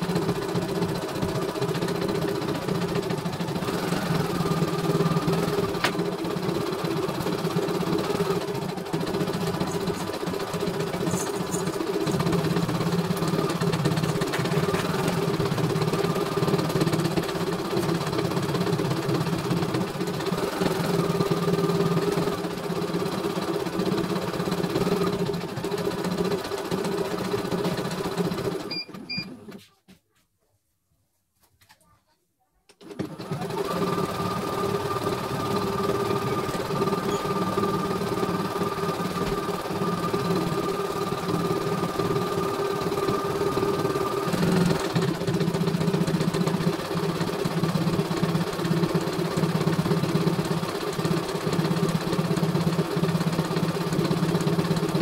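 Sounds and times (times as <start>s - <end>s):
embroidery machine stitching: 0.0s - 29.6s, 32.8s - 55.0s.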